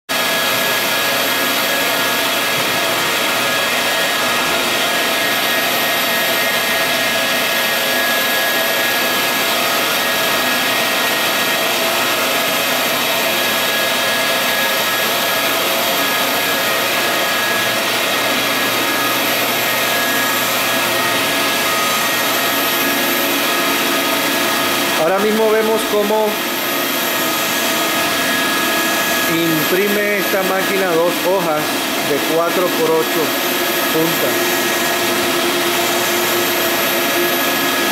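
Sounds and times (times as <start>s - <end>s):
printer machine whir and hiss: 0.2s - 37.9s.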